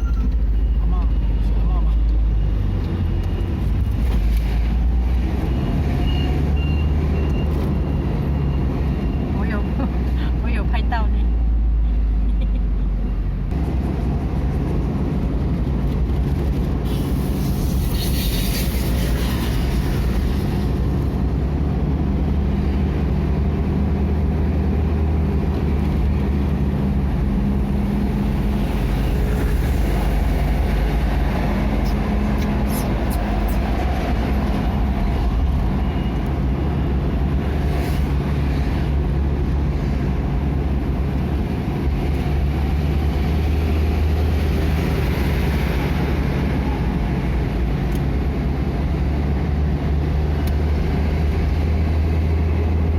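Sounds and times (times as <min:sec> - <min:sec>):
road rumble: 0:00.0 - 0:52.9
vehicle engine hum: 0:00.0 - 0:52.9.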